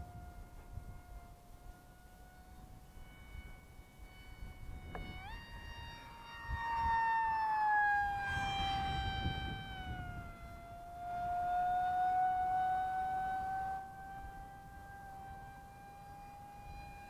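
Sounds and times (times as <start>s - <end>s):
model jet whining in flight: 0.0s - 17.0s.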